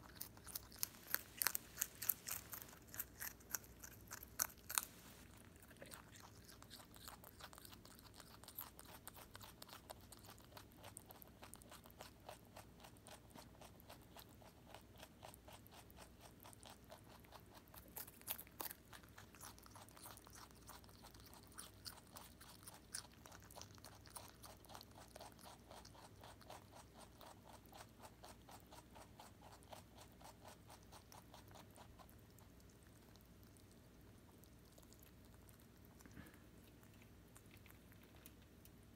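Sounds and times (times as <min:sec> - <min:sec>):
rabbit chewing: 0:00.0 - 0:38.9.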